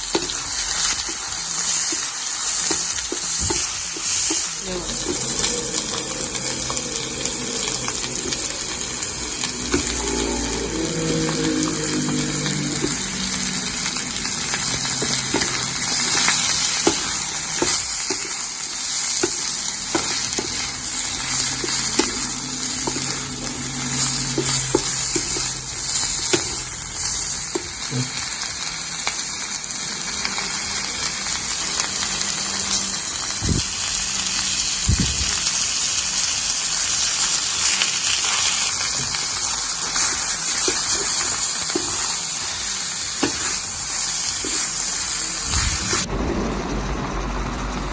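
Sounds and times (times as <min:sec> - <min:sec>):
food sizzling in a pan: 0:00.0 - 0:47.9.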